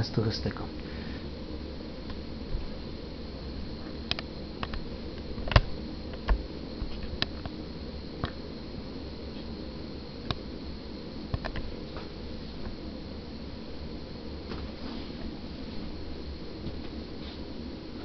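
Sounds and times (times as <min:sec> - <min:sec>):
gas stove burner hissing: 0:00.0 - 0:18.0.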